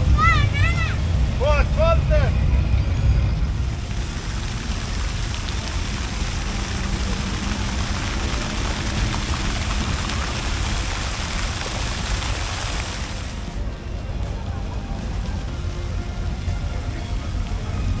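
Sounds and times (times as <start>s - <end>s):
fountain water splashing: 0.0s - 2.7s, 3.3s - 18.0s.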